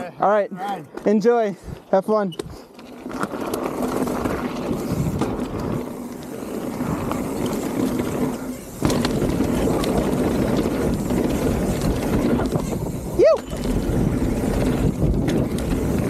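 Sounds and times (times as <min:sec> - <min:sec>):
bike clicks and knocks: 0:01.8 - 0:16.0
bike tyres rolling over gravel: 0:02.7 - 0:16.0.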